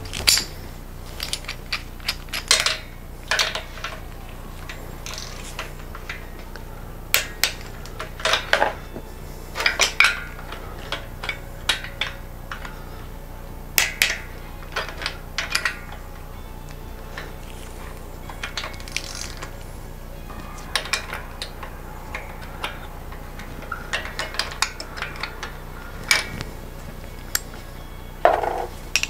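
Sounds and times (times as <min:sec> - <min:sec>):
low steady hum: 0:00.0 - 0:29.0
metal hand tools clinking: 0:00.0 - 0:29.0.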